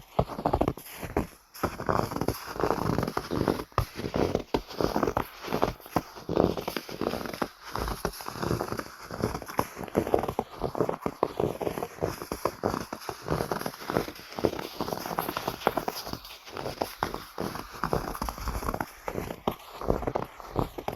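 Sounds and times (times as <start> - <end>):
footsteps crunching in snow: 0.0 - 20.9.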